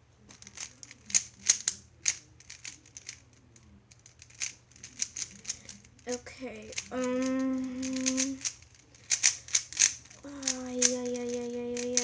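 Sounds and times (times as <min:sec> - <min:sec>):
plastic puzzle cube clicking: 0:00.3 - 0:03.3, 0:04.0 - 0:06.1, 0:06.7 - 0:12.0.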